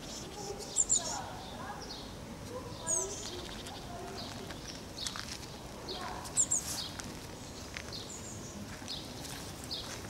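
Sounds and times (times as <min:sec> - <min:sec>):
sparrows chirping: 0:00.0 - 0:10.0.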